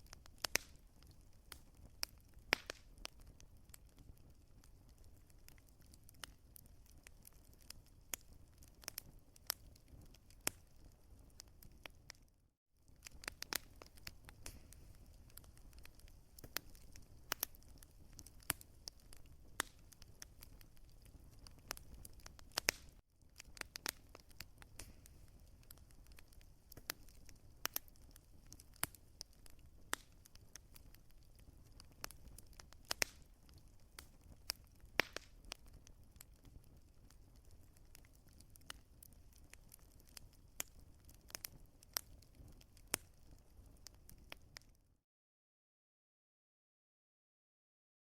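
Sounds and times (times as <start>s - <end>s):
wood fire crackling and popping: 0.0s - 44.8s.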